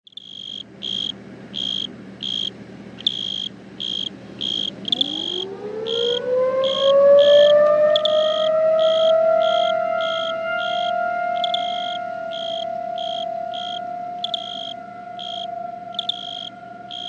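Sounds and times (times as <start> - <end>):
crickets chirping: 0.1 - 17.0
outdoor warning siren: 3.1 - 17.0.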